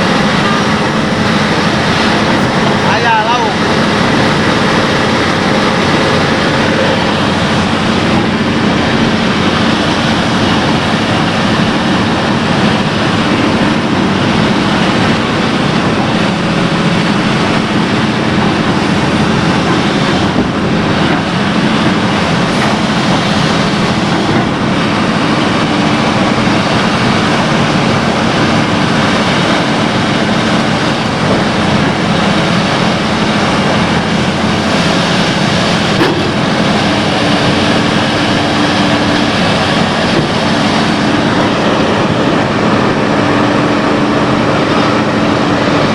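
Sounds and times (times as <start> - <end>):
excavator diesel engine rumbling: 0.0 - 45.9.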